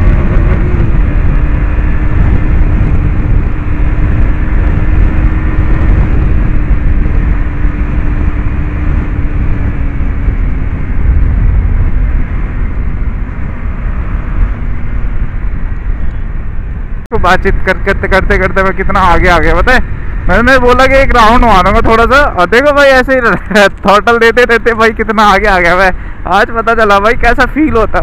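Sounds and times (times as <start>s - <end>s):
motorcycle engine cruising: 0.0s - 28.0s
wind rush on microphone: 0.0s - 28.0s.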